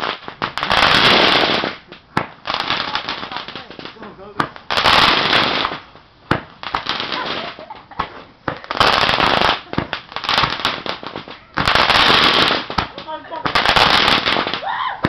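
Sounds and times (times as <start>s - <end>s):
fireworks hissing bursts: 0.0s - 15.0s
fireworks popping and crackling: 0.0s - 15.0s.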